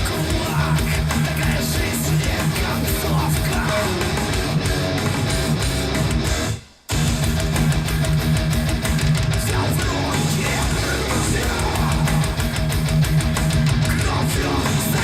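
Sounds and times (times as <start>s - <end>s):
rock music over loudspeakers: 0.0s - 15.0s.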